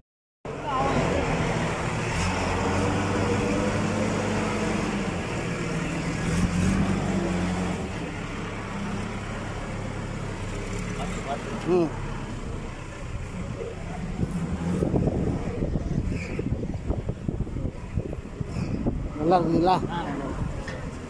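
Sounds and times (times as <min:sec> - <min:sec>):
diesel engine running: 0:00.5 - 0:21.0.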